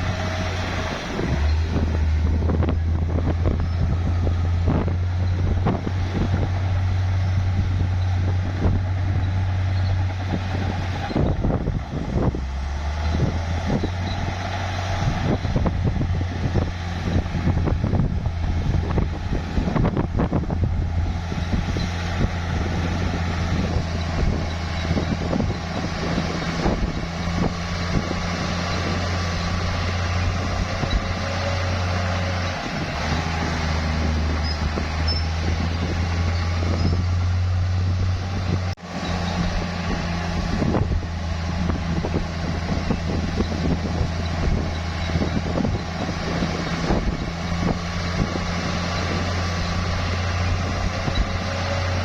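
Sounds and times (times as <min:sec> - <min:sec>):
bulldozer diesel engine under load: 0:00.0 - 0:52.0
engine knocks: 0:00.0 - 0:52.0.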